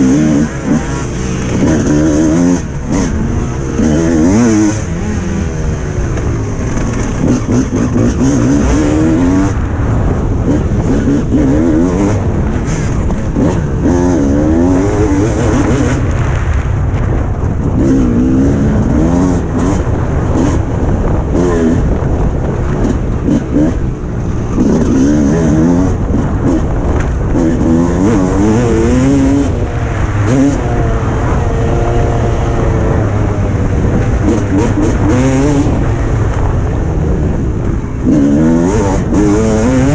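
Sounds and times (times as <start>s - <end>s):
motocross engine revving: 0.0s - 16.1s, 17.7s - 39.9s.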